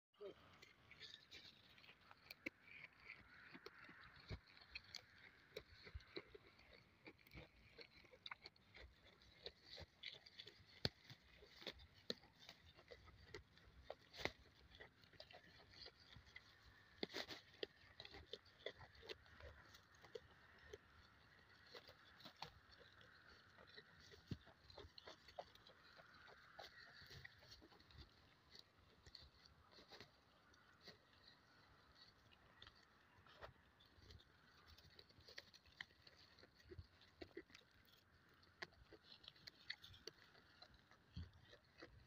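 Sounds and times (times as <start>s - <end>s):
goat tearing and chewing grass: 0.2s - 42.0s.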